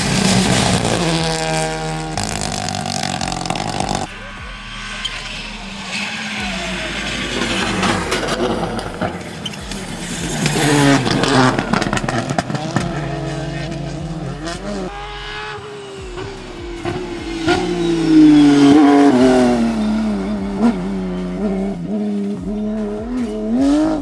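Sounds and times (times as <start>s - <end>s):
rally car engine revving: 0.0s - 24.0s
sharp exhaust cracks: 0.0s - 24.0s.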